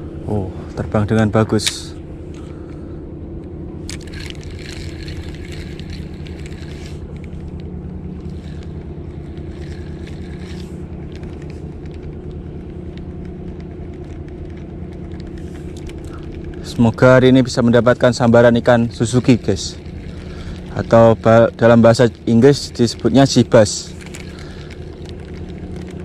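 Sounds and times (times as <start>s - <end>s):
boat engine droning: 0.0s - 26.0s
fishing reel whirring: 3.8s - 26.0s.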